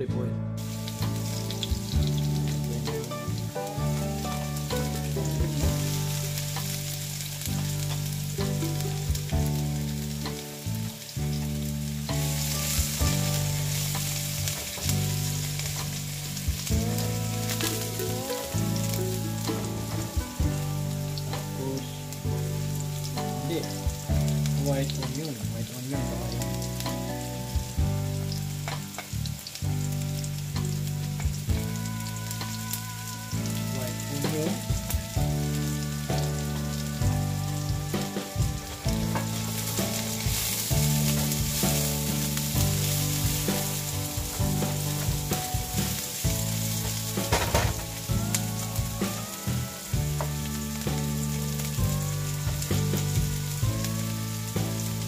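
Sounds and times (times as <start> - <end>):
garlic and onion sizzling in oil: 0.6 - 55.0.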